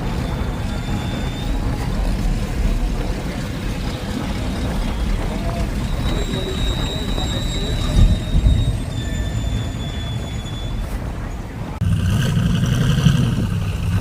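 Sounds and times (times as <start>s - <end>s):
indistinct voices: 0.0s - 14.0s
motor vehicles rumbling: 0.0s - 14.0s.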